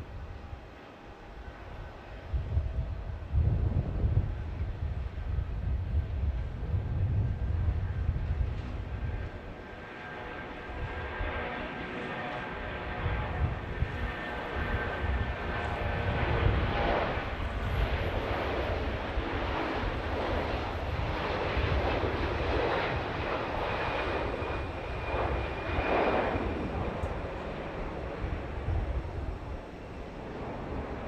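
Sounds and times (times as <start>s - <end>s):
jet engines roaring: 0.1s - 31.0s.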